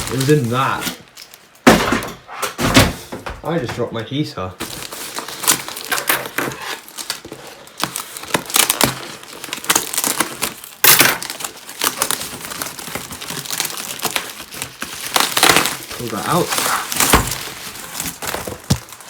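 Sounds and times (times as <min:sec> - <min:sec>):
packing material crinkling: 0:00.0 - 0:01.7, 0:04.6 - 0:19.0.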